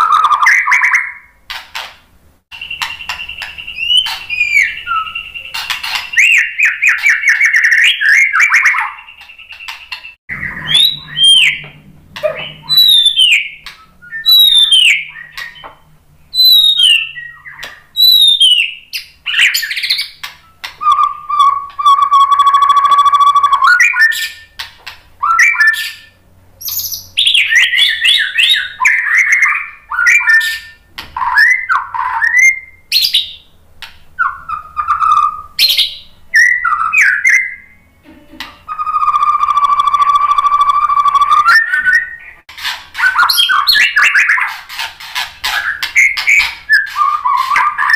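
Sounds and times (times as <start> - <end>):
bird singing varied song: 0.0 - 1.4, 2.5 - 38.0, 38.6 - 47.9.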